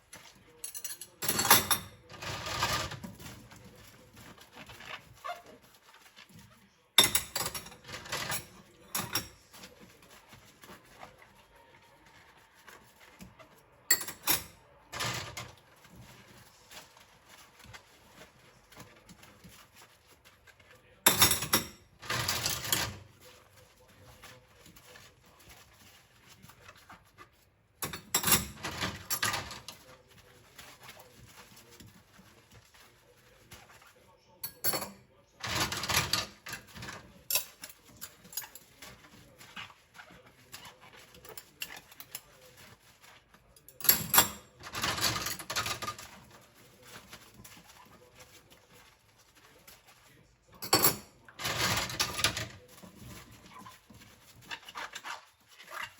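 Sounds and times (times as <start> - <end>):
sponge scrubbing bowls in sink: 0.0 - 55.9.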